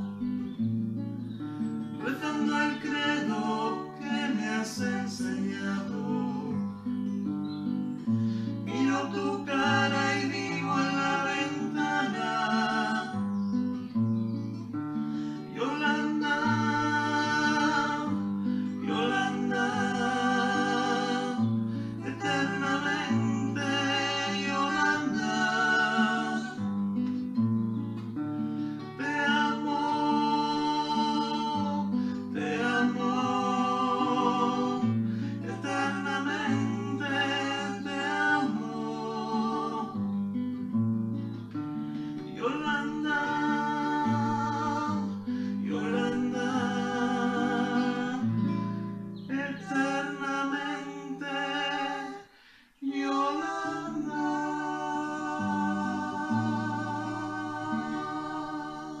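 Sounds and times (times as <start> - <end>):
classical guitar: 0.0 - 59.0
voices singing a slow ballad: 0.0 - 59.0.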